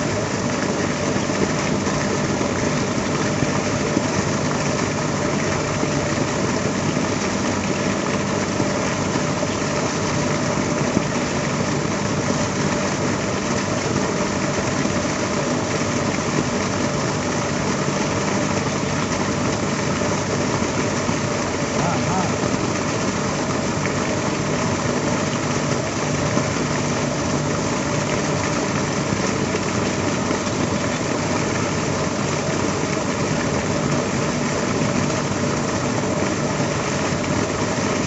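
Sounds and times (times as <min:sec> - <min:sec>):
engine-like hum: 0:00.0 - 0:38.0.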